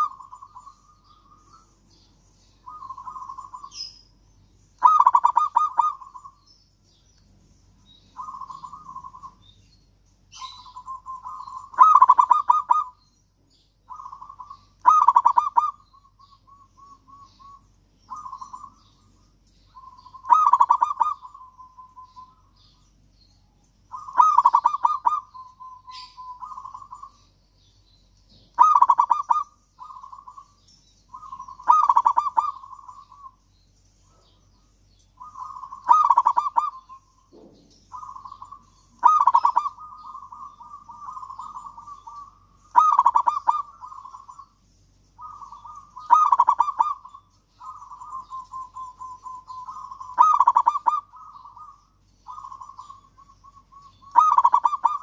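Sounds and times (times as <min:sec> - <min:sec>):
dove cooing: 0:00.0 - 0:01.9, 0:02.6 - 0:04.0, 0:04.8 - 0:06.5, 0:08.0 - 0:09.6, 0:10.3 - 0:13.0, 0:13.8 - 0:22.8, 0:23.9 - 0:27.3, 0:28.3 - 0:33.4, 0:34.1 - 0:55.0.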